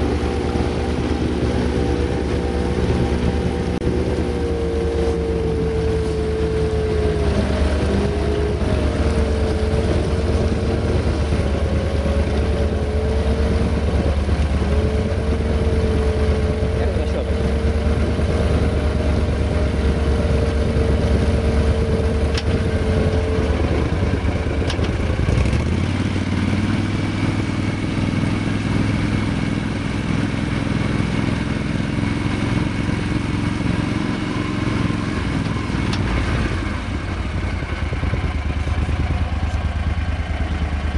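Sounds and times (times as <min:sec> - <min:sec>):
vehicle engine running under load: 0:00.0 - 0:40.9.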